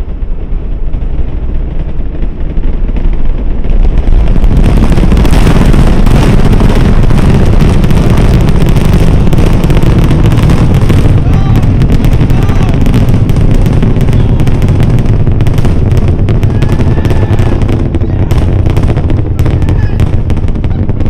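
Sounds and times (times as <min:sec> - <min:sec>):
rocket launch roar: 0:00.0 - 0:21.0.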